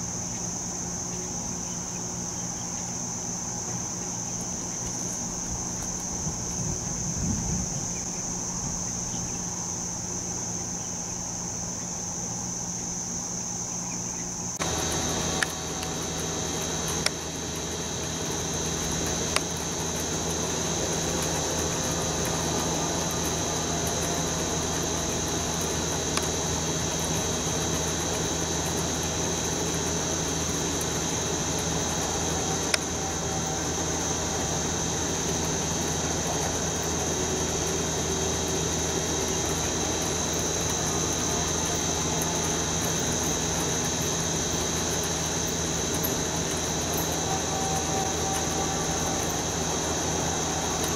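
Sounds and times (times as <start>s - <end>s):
high-pitched whine: 0.0s - 50.9s
low mechanical hum: 0.0s - 50.9s.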